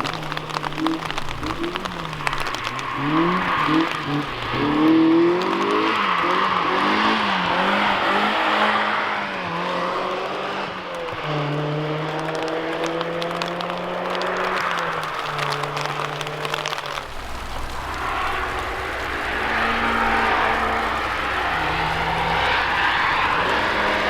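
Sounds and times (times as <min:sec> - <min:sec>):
steady hiss: 0:00.0 - 0:09.3, 0:12.2 - 0:24.0
race car engines revving: 0:00.0 - 0:24.0.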